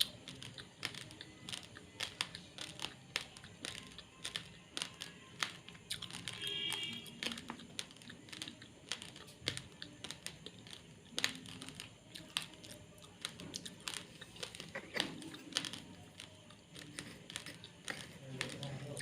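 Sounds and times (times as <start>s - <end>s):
chewing crunchy rice grains: 0.0s - 19.0s.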